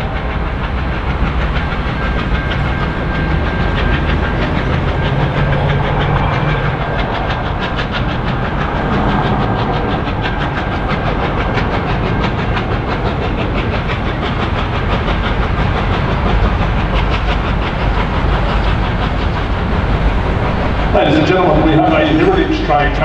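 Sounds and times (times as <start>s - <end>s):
heavy low rumble of train: 0.0s - 23.0s
steam locomotive exhaust beating: 0.0s - 23.0s.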